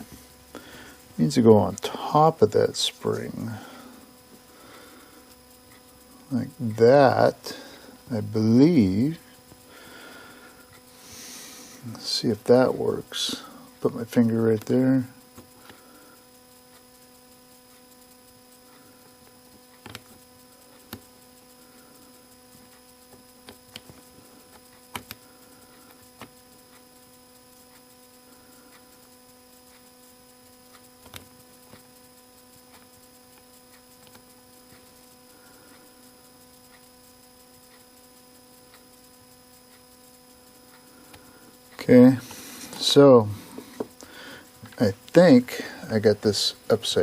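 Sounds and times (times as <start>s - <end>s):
electrical hum: 0.0s - 47.0s.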